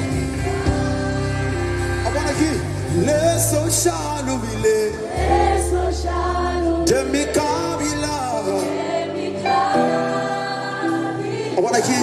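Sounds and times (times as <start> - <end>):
congregation singing: 0.0 - 12.0
keyboard accompaniment: 0.0 - 12.0.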